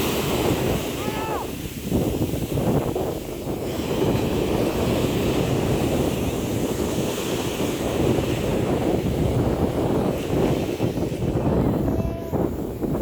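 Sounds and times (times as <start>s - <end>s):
surf breaking on a beach: 0.0s - 13.0s
wind blowing across microphone: 0.0s - 13.0s.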